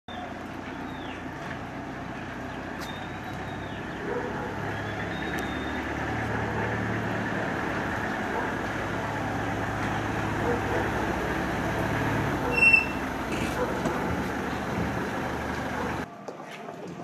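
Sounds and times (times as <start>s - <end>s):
vehicle engines driving slowly: 0.1s - 16.1s
tyres on cobblestones: 0.1s - 17.0s.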